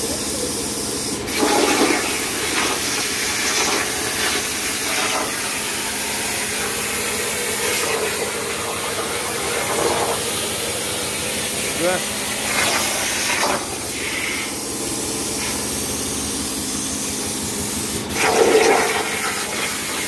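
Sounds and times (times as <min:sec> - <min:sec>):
plasma cutter hissing: 0:00.0 - 0:20.0.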